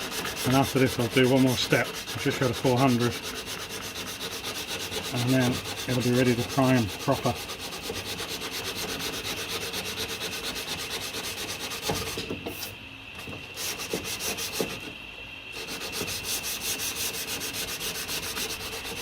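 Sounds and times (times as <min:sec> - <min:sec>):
hand sanding rasping strokes: 0:00.0 - 0:12.7, 0:13.6 - 0:14.9, 0:15.5 - 0:19.0.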